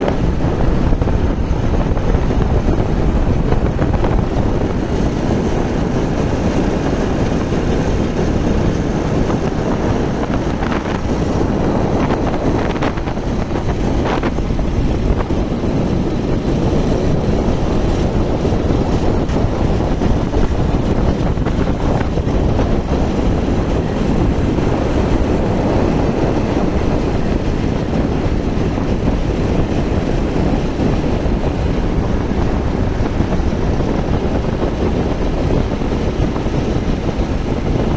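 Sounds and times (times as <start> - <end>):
road and vehicle rumble: 0.0 - 37.9
wind buffeting microphone: 0.0 - 37.9.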